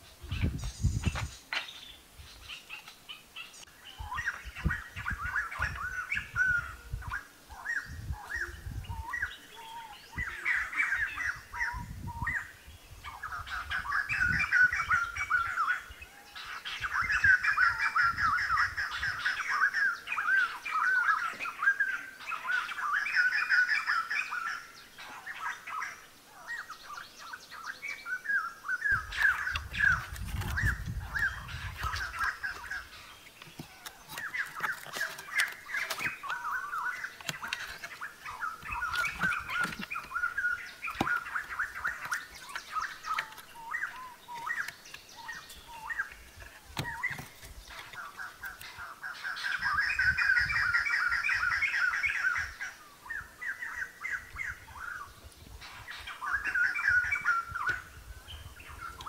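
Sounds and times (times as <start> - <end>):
birds chattering chirps: 0.0 - 59.0.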